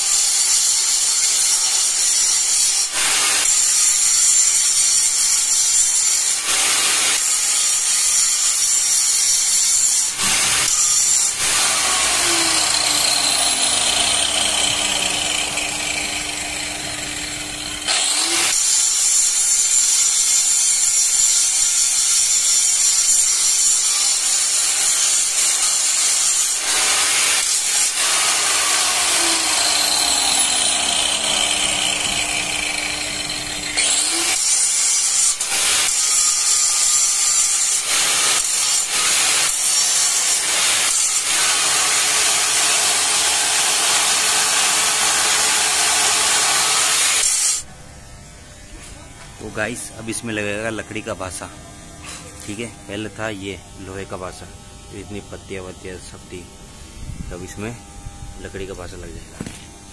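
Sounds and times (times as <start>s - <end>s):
angle grinder grinding steel: 0.0s - 59.9s.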